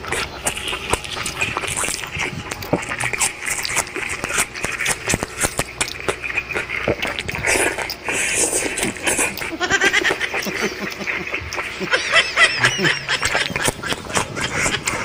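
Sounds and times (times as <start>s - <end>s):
wet mouth clicks: 0.0s - 11.9s, 12.5s - 15.0s
crunchy chewing: 0.0s - 15.0s.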